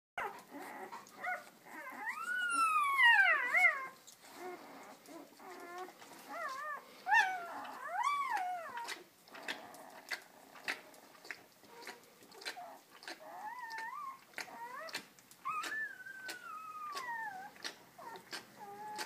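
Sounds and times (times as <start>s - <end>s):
puppy crying and whimpering: 0.2s - 19.0s.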